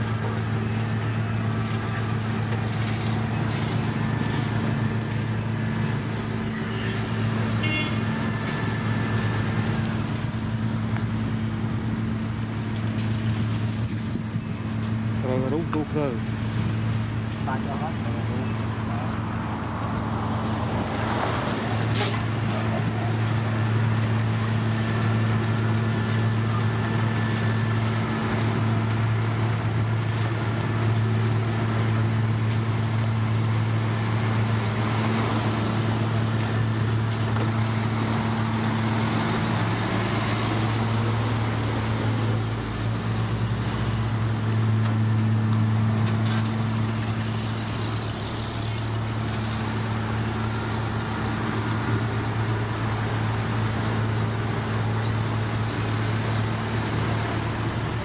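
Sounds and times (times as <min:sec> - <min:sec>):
heavy diesel engines humming: 0:00.0 - 0:58.0.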